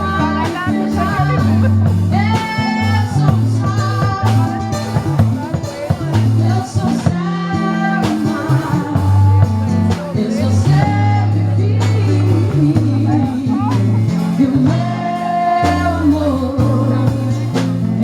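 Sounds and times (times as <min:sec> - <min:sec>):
band music: 0:00.0 - 0:18.0.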